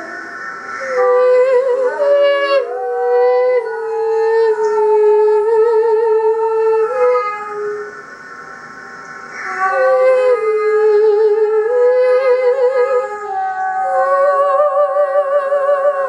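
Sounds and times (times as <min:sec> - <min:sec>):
high voice humming: 0:00.0 - 0:16.0.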